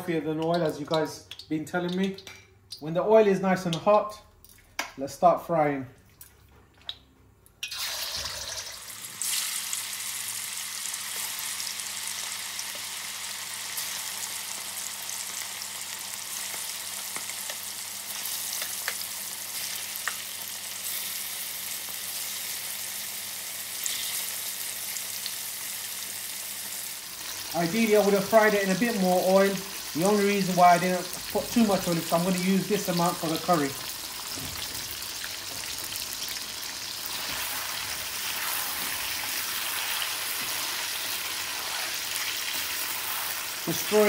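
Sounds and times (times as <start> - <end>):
chicken sizzling in hot oil: 7.6 - 44.0.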